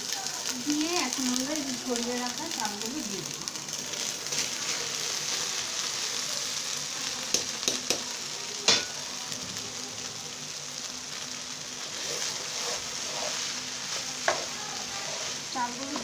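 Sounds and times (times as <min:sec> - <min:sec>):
oil sizzling in a pot: 0:00.0 - 0:16.0
rice stirred with spatula: 0:00.0 - 0:16.0.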